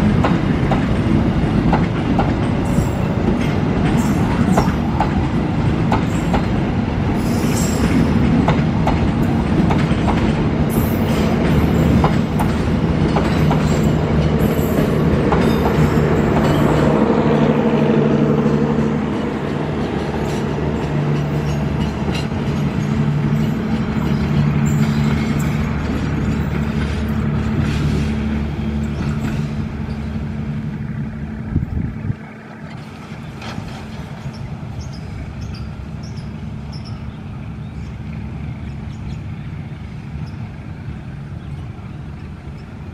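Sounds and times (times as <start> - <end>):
train wheels clattering over rail joints: 0.0 - 17.1, 18.4 - 31.2, 32.4 - 37.1.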